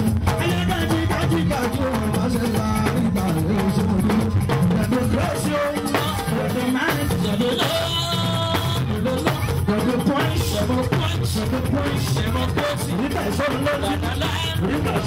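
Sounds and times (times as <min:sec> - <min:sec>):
live band with drums: 0:00.0 - 0:15.0.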